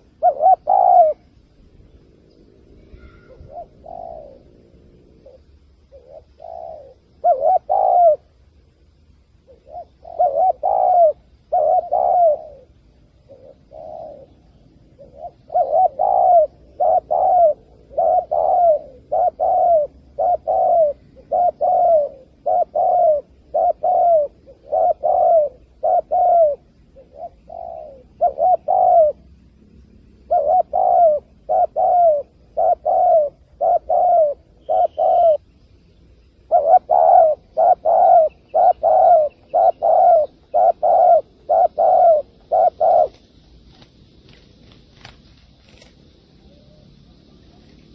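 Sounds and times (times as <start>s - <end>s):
dove cooing: 0.0s - 1.4s, 2.0s - 8.4s, 9.4s - 35.6s, 36.3s - 47.9s.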